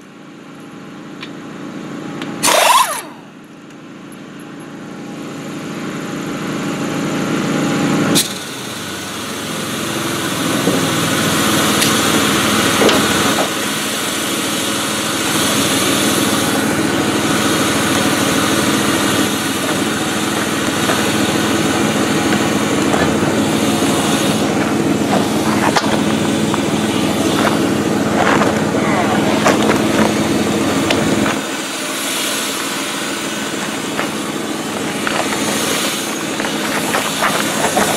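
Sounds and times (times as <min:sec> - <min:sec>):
small gasoline engine running: 0:00.0 - 0:37.9.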